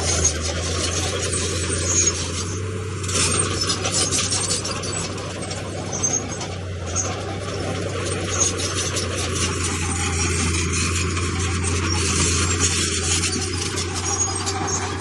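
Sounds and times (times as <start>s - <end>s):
diesel engine running: 0.0s - 15.0s
metallic clanking and rattling: 0.0s - 15.0s.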